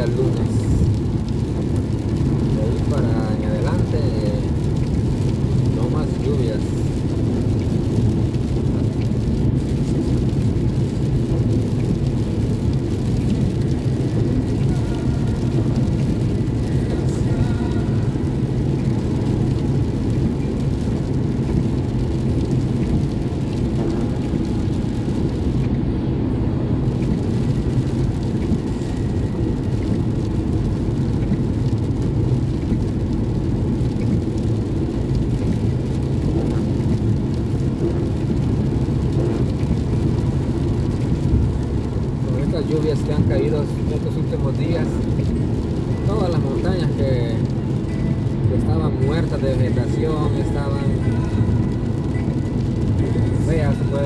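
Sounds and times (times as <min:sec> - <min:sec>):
car road noise on wet pavement: 0:00.0 - 0:54.0.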